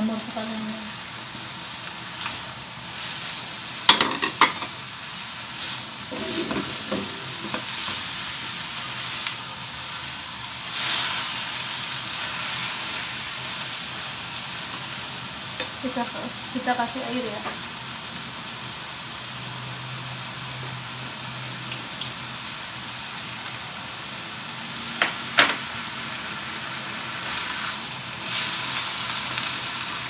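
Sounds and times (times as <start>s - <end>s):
vegetables sizzling in a wok: 0.0s - 30.0s.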